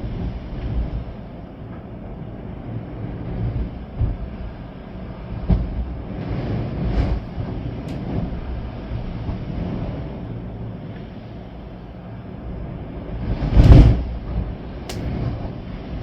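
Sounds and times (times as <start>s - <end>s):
gusting wind: 0.0s - 16.0s
rain: 0.0s - 16.0s.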